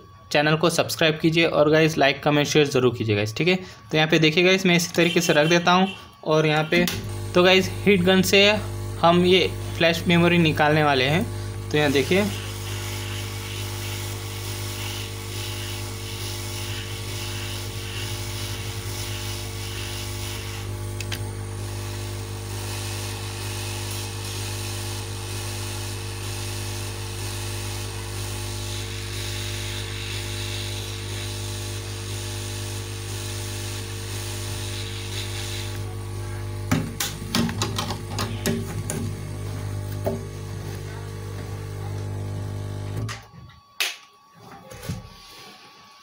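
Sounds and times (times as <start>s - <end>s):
hot air gun blower humming: 5.0s - 43.1s.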